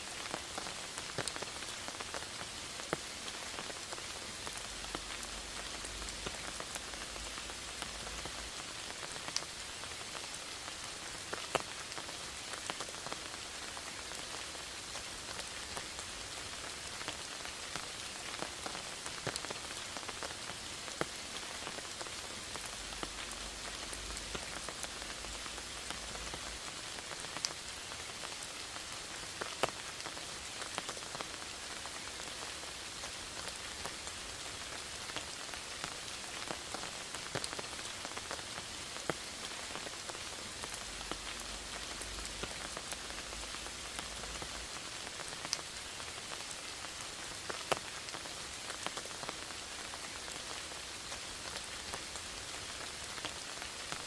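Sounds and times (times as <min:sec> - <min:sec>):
rain pattering in forest: 0:00.0 - 0:54.0.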